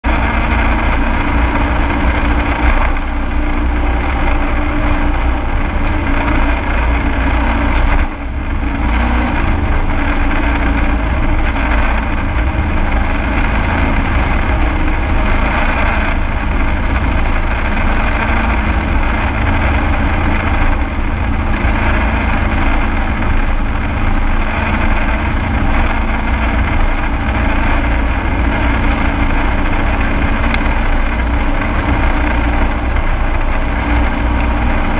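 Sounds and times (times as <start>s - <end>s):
truck engine running inside cab: 0.0s - 34.9s.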